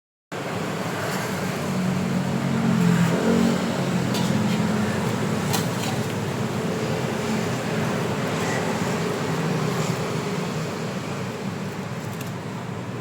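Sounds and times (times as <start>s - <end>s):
street traffic engine noise: 0.3s - 13.0s.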